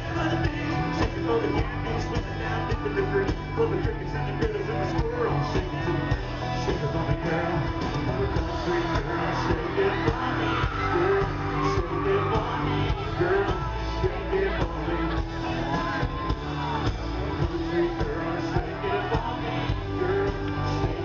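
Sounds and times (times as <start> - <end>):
crowd whooping and shouting: 0.0 - 21.0
live country-rock band: 0.0 - 21.0
person singing: 0.0 - 21.0.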